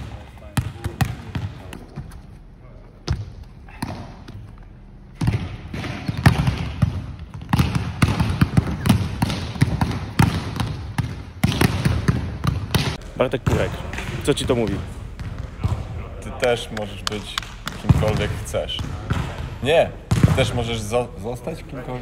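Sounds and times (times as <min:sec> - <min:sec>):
volleyballs hit and bouncing: 0:00.0 - 0:02.4, 0:03.0 - 0:21.1.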